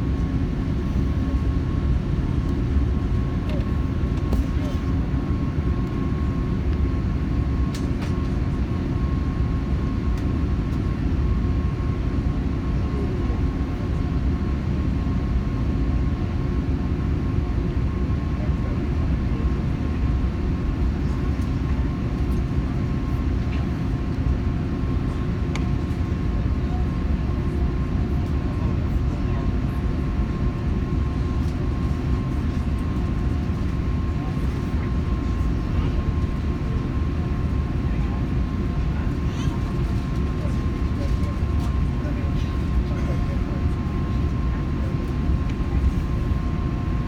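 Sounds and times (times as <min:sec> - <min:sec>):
airplane cabin rumble: 0:00.0 - 0:47.0.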